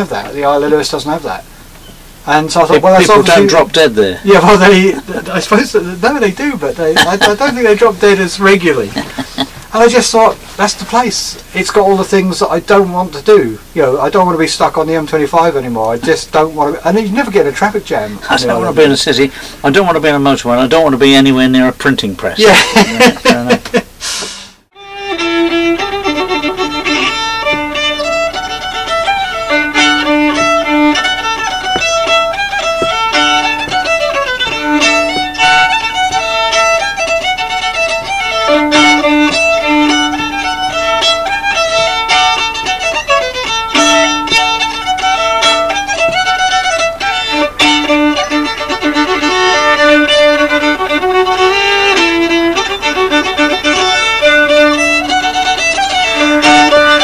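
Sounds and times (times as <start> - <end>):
solo fiddle tune with drone: 0.2 - 21.2, 24.8 - 57.0.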